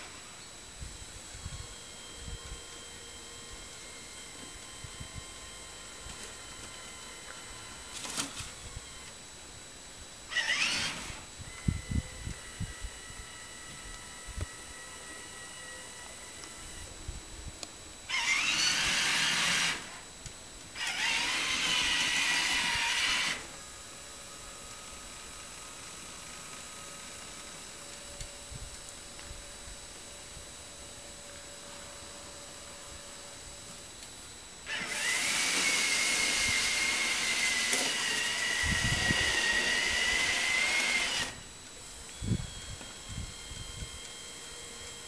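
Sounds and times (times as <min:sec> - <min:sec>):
small electric motor whining: 0:00.0 - 0:45.0.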